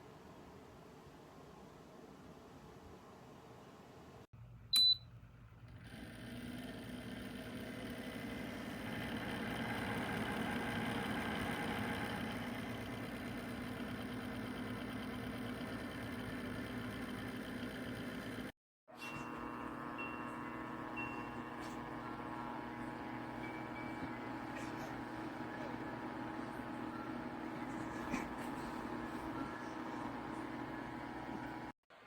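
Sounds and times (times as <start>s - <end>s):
heater fan humming: 4.4s - 31.8s.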